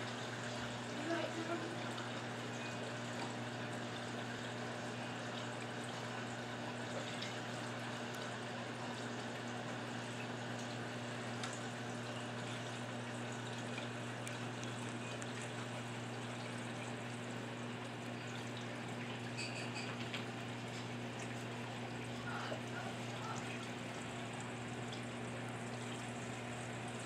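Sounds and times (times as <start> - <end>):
low pump hum: 0.0 - 27.0
water splashing and trickling: 0.1 - 27.0.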